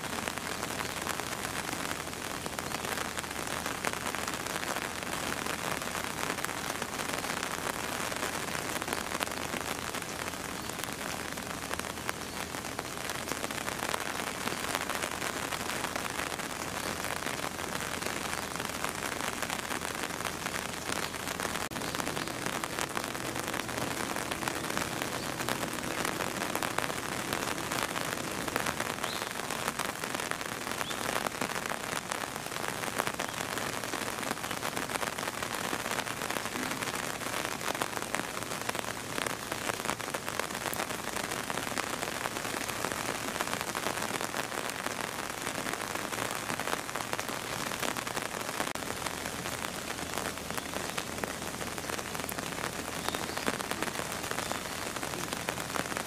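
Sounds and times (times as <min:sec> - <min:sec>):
rain falling on hard surface: 0:00.0 - 0:56.0.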